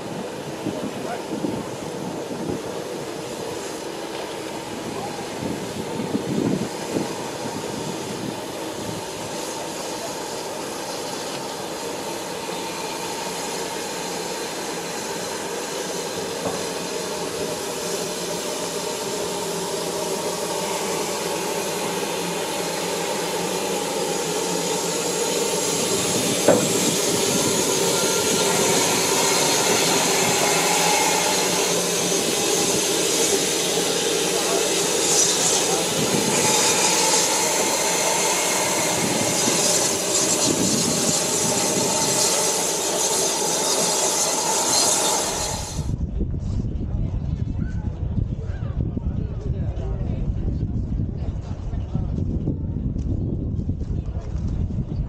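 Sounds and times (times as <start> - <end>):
steam hiss: 0.0 - 45.9
steam locomotive rolling past: 0.0 - 47.0.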